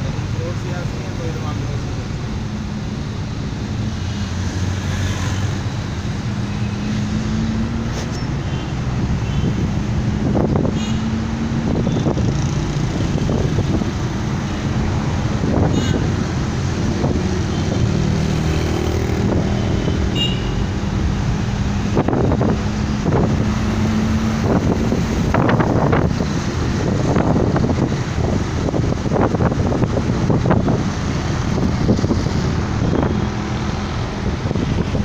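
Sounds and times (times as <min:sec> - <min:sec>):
engine hum: 0:00.0 - 0:35.0
wind rushing on microphone: 0:01.5 - 0:20.1, 0:20.7 - 0:35.0.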